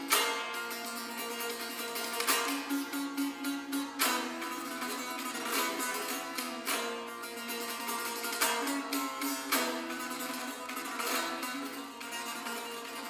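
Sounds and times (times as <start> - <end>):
long-necked lute strummed and plucked: 0.0 - 13.0.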